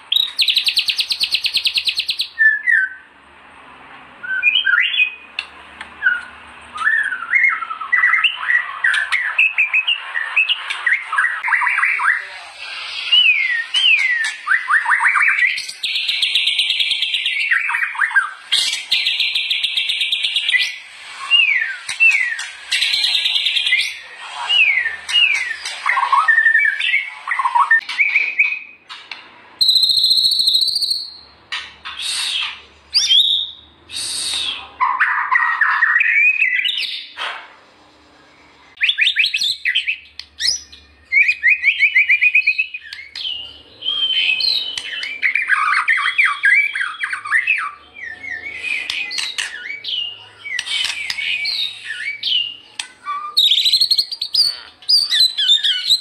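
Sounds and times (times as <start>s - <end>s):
bird singing: 0.0s - 3.1s, 4.2s - 5.4s, 6.0s - 29.0s, 29.6s - 33.8s, 34.4s - 37.2s, 38.2s - 56.0s.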